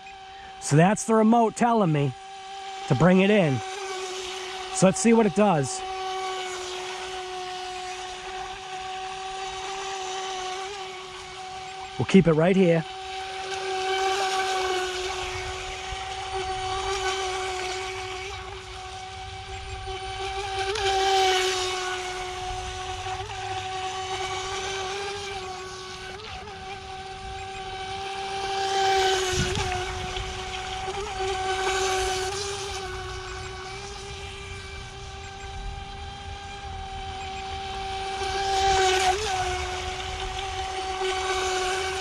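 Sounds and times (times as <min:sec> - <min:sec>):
toy boat motor whine: 0:00.0 - 0:42.0.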